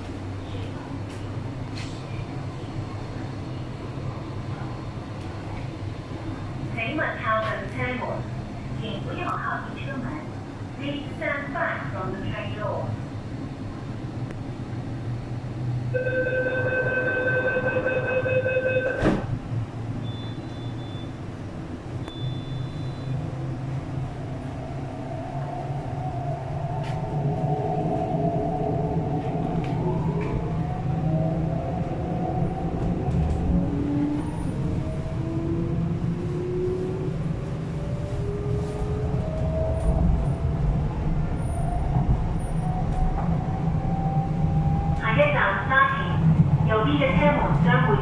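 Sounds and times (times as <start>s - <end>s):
train wheels rumbling on track: 0.0s - 16.0s, 18.7s - 48.0s.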